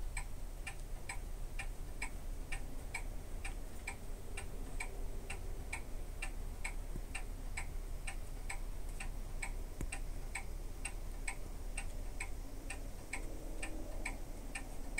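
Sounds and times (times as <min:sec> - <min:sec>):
clock ticking: 0:00.0 - 0:14.9.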